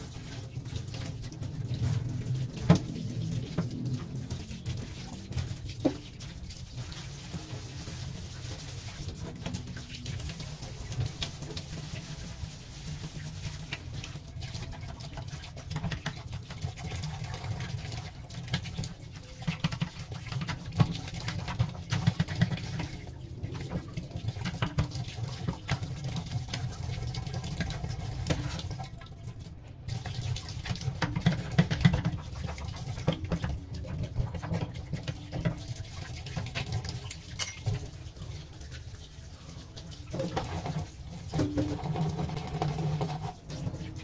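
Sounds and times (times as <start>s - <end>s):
hand scrubbing sink basin: 0.0s - 29.0s, 29.9s - 44.0s
tap water running into sink: 0.0s - 44.0s.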